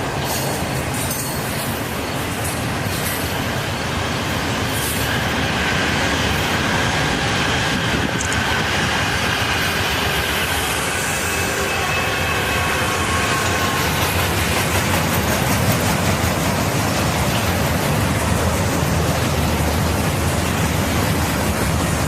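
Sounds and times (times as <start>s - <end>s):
train wheel squeal: 0.0s - 21.1s
railroad cars rumbling past: 0.0s - 22.0s.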